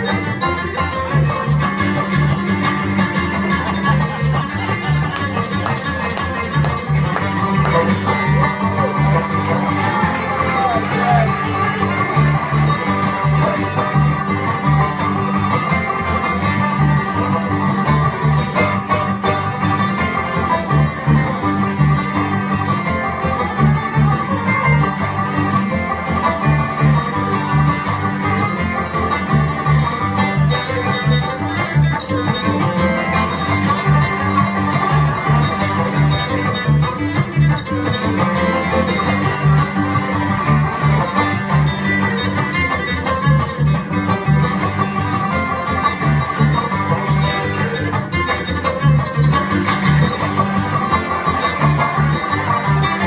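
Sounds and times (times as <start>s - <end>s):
bluegrass banjo and guitar music: 0.0s - 53.0s.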